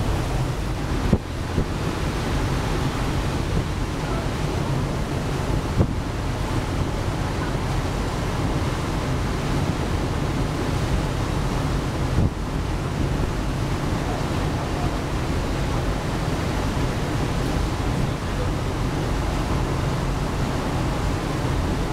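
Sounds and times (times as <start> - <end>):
churning wake water: 0.0 - 21.9
low engine rumble: 0.0 - 21.9
wind buffeting microphone: 0.0 - 21.9.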